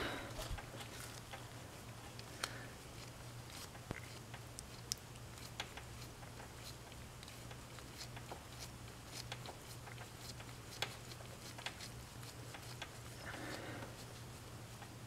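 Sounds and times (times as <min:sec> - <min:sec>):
soft rustle: 0:00.0 - 0:15.0
steady low hum: 0:00.0 - 0:15.0.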